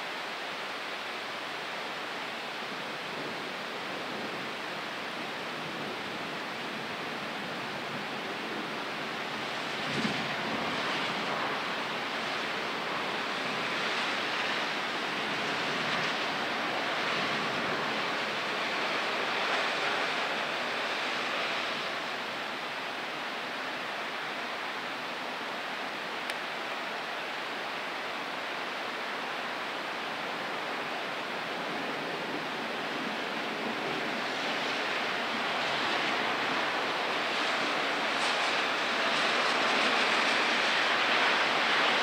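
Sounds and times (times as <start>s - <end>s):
thunderstorm rain hissing: 0.0s - 42.0s.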